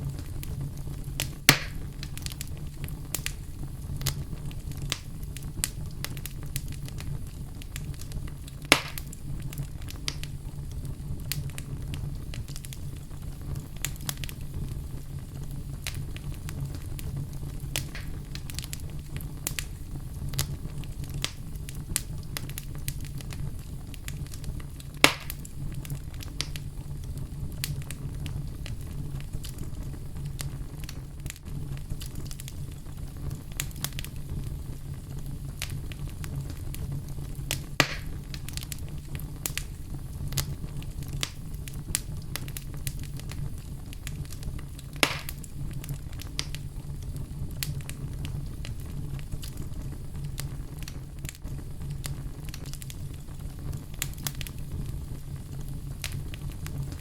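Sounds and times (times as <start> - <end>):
fire crackling in a fireplace: 0.0 - 57.0
fire popping: 0.0 - 57.0
low steady rumble: 0.0 - 57.0.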